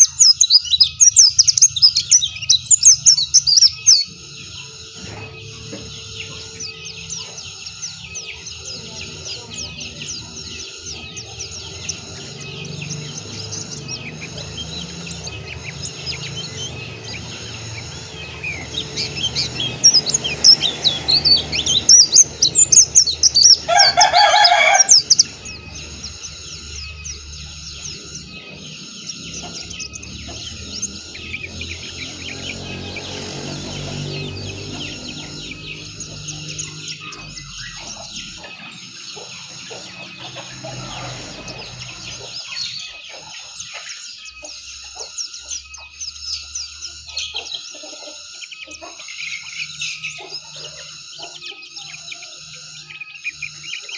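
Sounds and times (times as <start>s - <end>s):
bird warbling: 0.0s - 53.9s
high bird chirps: 0.0s - 53.9s.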